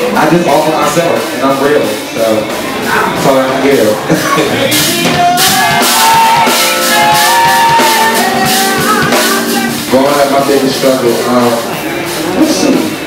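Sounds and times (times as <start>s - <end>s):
man singing: 0.0s - 11.8s
drum kit with cymbal hits: 0.0s - 13.0s
keyboard: 0.0s - 13.0s.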